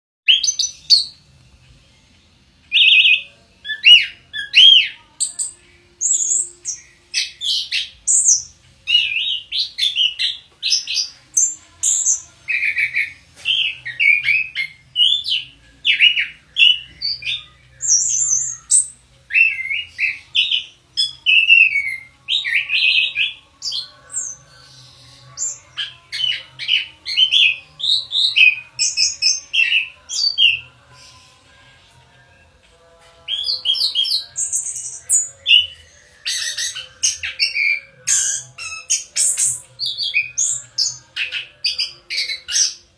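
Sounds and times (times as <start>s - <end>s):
thrush singing: 0.3s - 42.9s.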